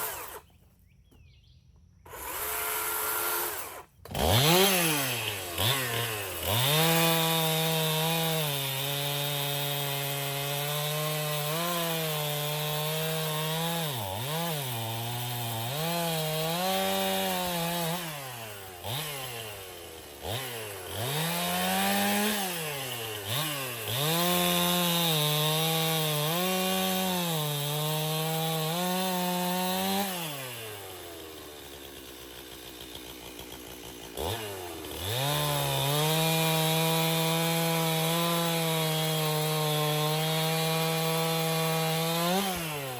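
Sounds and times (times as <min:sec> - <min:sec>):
chainsaw cutting log: 0:00.0 - 0:00.6, 0:01.9 - 0:42.9.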